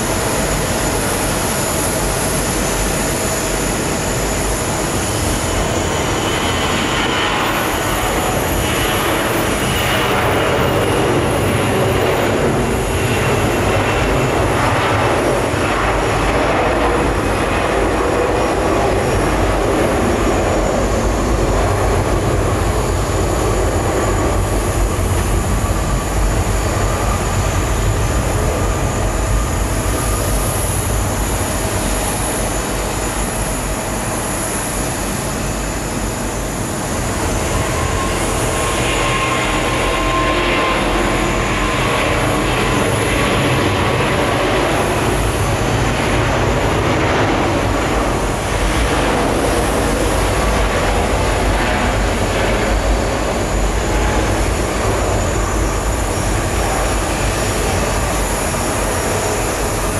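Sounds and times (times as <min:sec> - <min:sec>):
jet airliner takeoff roar: 0:00.0 - 0:59.9.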